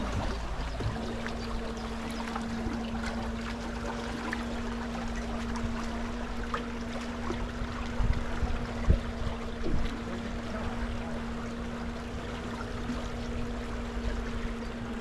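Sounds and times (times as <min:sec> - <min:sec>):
boat motor humming: 0:00.0 - 0:15.0
water splashing along hull: 0:00.0 - 0:15.0.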